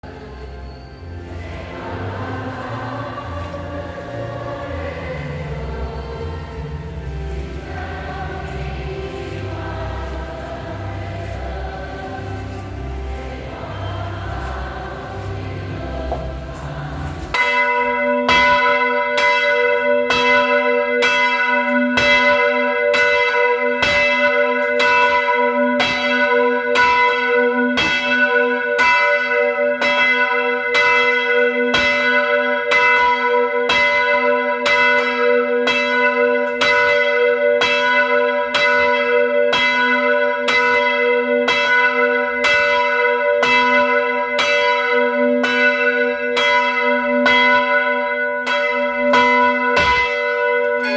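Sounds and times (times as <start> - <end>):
church bell ringing: 0.0 - 50.9.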